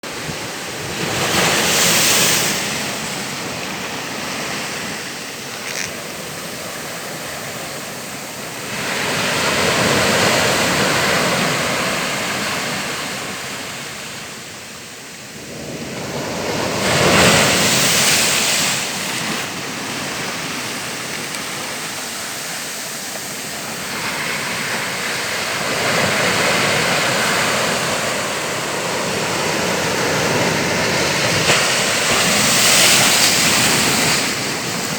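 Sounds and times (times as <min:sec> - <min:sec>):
ocean waves breaking: 0:00.0 - 0:14.5, 0:15.3 - 0:34.9.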